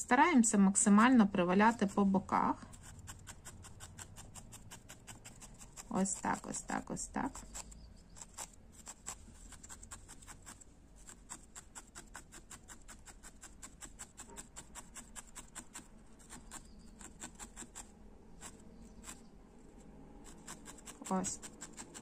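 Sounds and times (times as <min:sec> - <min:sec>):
felting needle poking wool: 0:00.0 - 0:22.0.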